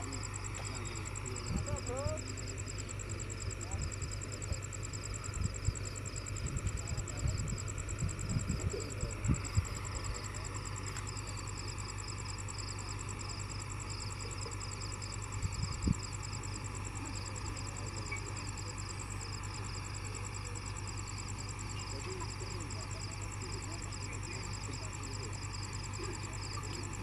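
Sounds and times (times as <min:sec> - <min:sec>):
heavy machinery engine humming: 0:00.0 - 0:27.0
night insects trilling: 0:00.0 - 0:27.0.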